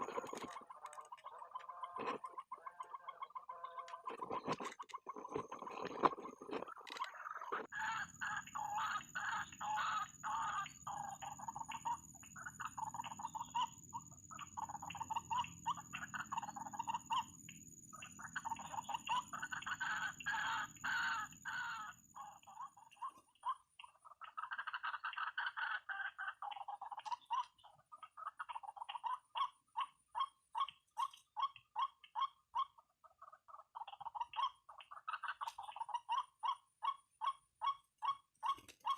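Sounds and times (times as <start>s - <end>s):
waterhens croaking calls: 0.0s - 38.9s.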